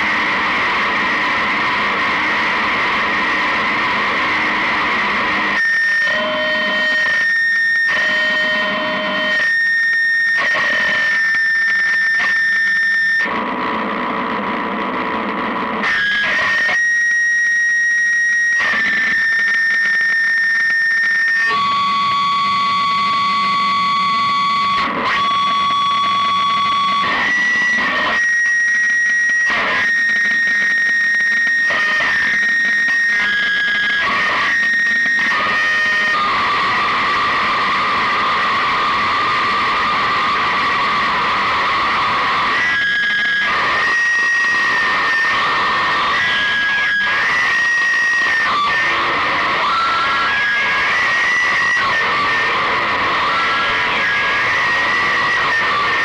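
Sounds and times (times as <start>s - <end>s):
distorted noise music: 0.0s - 56.0s
low held tone: 0.0s - 56.0s
steady high whine: 0.0s - 56.0s.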